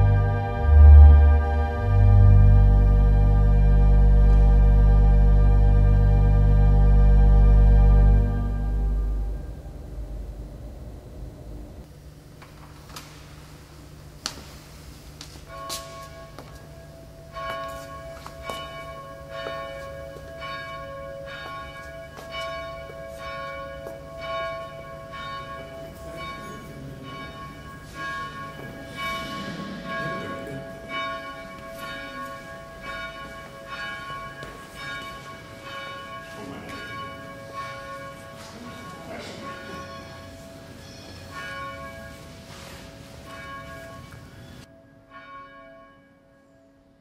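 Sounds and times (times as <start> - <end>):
church bells ringing: 0.0 - 10.3, 15.4 - 47.0.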